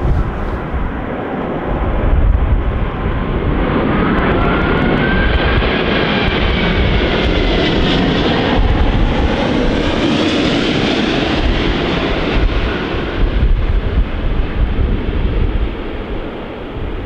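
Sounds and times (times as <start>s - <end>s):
jet roar overhead: 0.0s - 17.0s.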